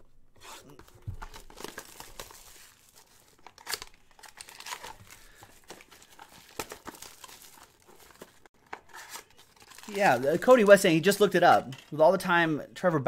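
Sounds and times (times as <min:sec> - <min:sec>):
foil and paper crinkling: 0:01.2 - 0:11.7.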